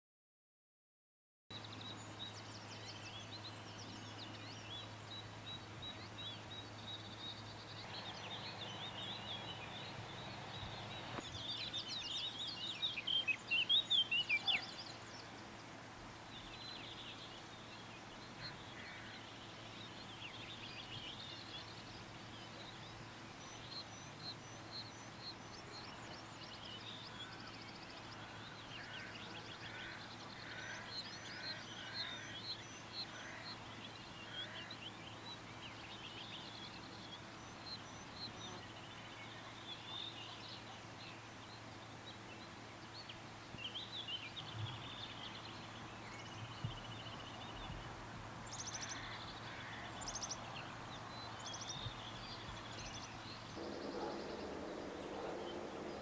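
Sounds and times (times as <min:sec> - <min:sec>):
birds singing and calling: 0:01.5 - 0:56.0
faint low hum: 0:01.5 - 0:56.0.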